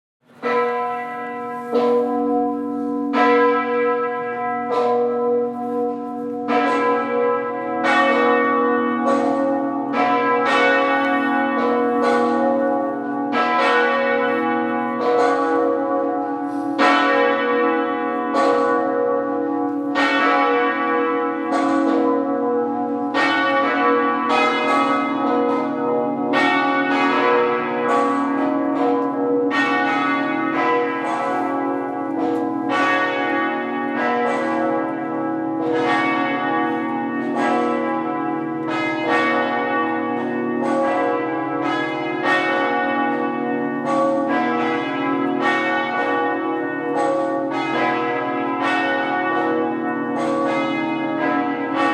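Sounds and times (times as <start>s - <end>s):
church bells ringing: 0.2s - 51.9s.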